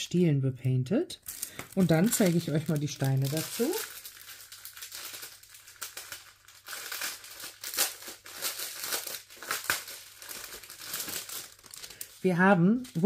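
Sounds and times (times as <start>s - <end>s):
plastic packaging crinkling: 1.2s - 13.0s.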